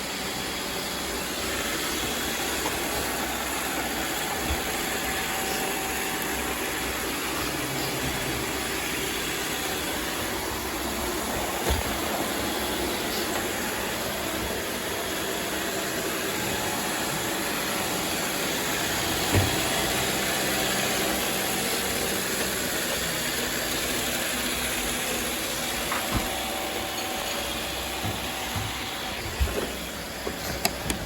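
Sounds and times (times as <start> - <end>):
robot vacuum whirring: 0.0 - 31.0.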